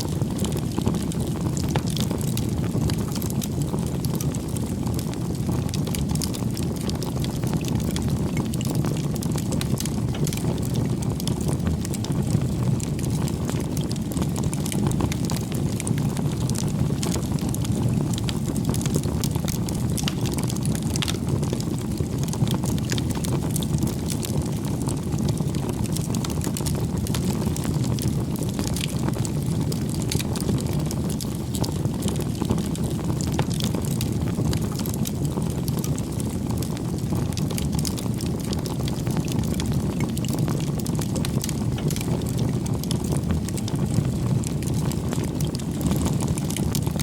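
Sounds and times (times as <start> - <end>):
bonfire burning rumble: 0.0 - 47.0
burning wood crackling and popping: 0.0 - 47.0.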